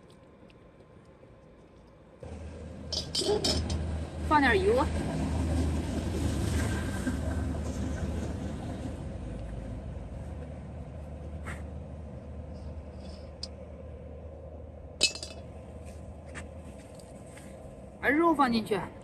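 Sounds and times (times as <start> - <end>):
low fire rumble: 0.0 - 18.1.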